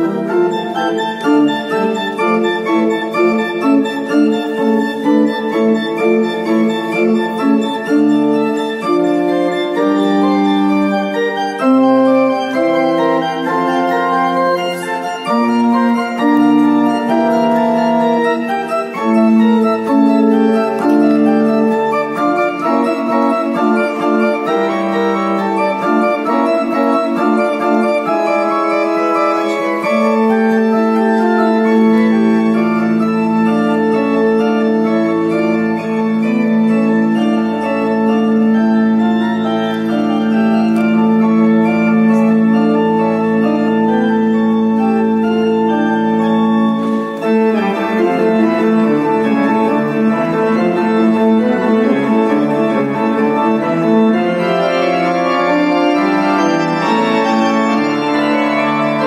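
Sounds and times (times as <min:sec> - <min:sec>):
church pipe organ playing: 0:00.0 - 0:59.0.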